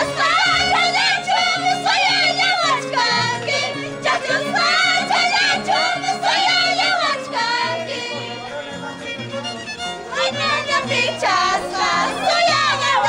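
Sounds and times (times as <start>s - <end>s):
girls singing together: 0.0s - 8.2s, 10.1s - 13.0s
violin: 0.0s - 13.0s.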